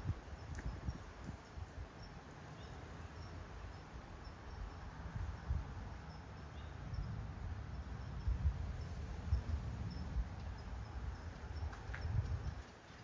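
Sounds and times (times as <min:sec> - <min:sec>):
wind buffeting microphone: 0:00.0 - 0:03.3, 0:04.0 - 0:13.0.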